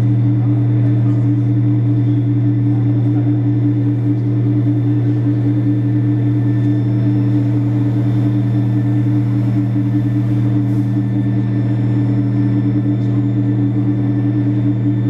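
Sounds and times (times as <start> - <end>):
deep electronic drone: 0.0 - 15.0.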